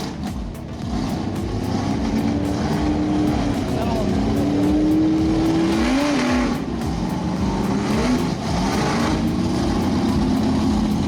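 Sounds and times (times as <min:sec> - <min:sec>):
loud rushing noise: 0:00.0 - 0:11.0
truck engine revving: 0:00.0 - 0:11.0.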